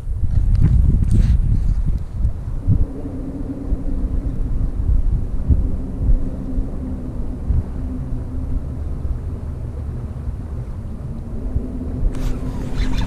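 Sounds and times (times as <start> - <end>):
wind rumbling on microphone: 0.0 - 13.0
faint motor hum: 1.8 - 13.0.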